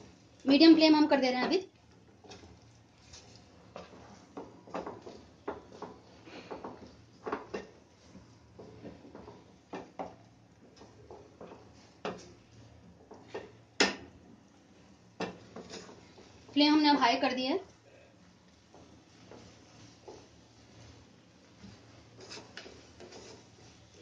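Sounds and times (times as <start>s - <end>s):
wooden spatula scraping pan: 1.3s - 13.6s, 14.8s - 24.0s.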